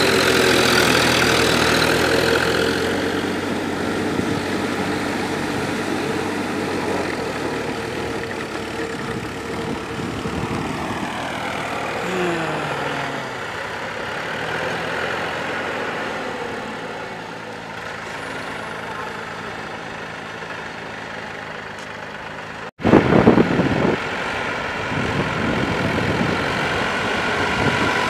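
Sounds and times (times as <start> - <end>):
diesel tractor engine under load: 0.0 - 28.0.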